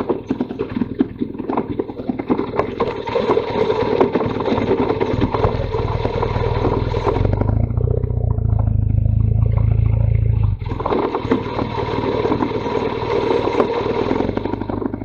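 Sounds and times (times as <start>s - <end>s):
motorcycle engine droning: 0.0s - 15.0s
rough clattery engine: 0.0s - 15.0s.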